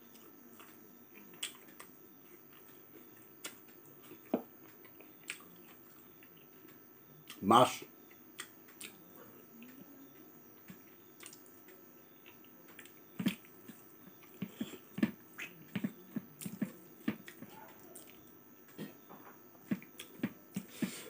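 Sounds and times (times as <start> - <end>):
person chewing and lip-smacking: 0.1 - 7.4, 8.1 - 19.0, 19.6 - 21.0.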